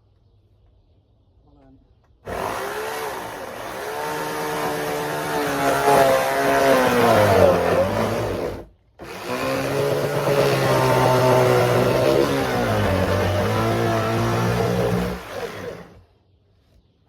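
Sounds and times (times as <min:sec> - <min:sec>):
chainsaw running: 0:02.3 - 0:16.0.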